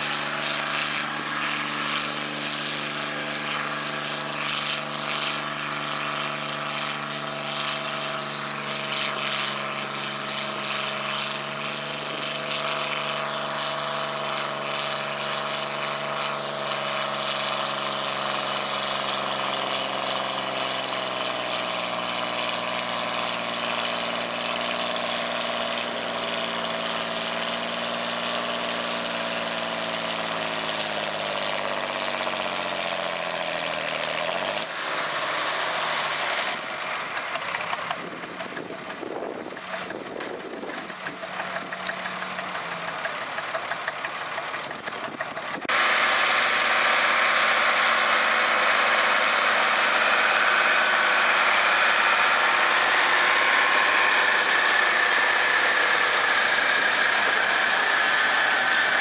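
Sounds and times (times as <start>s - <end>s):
tractor engine under heavy load: 0.0s - 59.0s.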